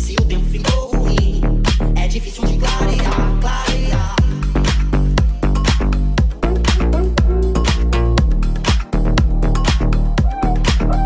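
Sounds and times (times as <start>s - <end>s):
deep house music: 0.0s - 11.0s.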